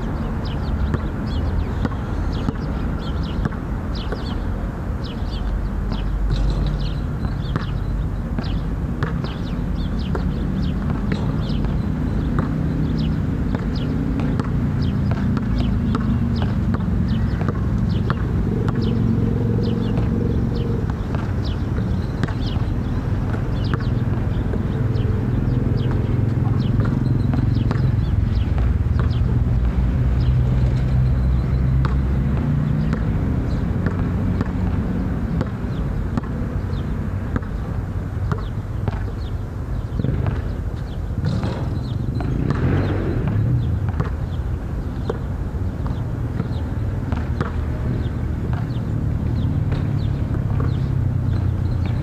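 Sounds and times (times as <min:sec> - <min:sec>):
basketball bouncing: 0:00.1 - 0:04.4, 0:05.3 - 0:39.3, 0:39.9 - 0:52.0.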